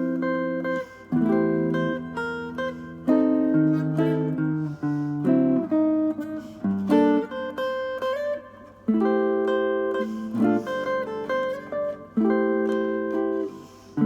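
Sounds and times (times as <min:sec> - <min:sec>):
solo guitar chord melody: 0:00.0 - 0:14.0.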